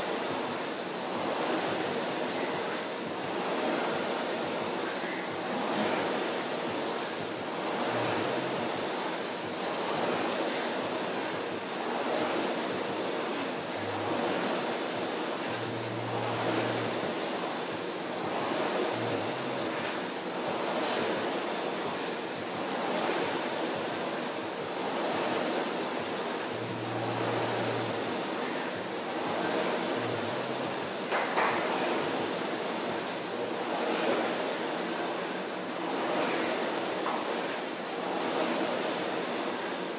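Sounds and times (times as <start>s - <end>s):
rowing machine flywheel whooshing: 0.0s - 39.9s.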